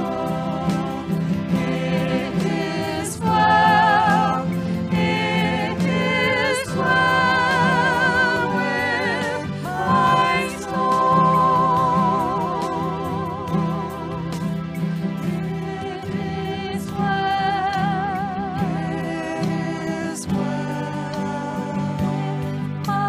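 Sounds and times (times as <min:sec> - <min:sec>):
person singing with vibrato: 0:00.0 - 0:14.4, 0:15.3 - 0:23.0
instrumental accompaniment: 0:00.0 - 0:23.0.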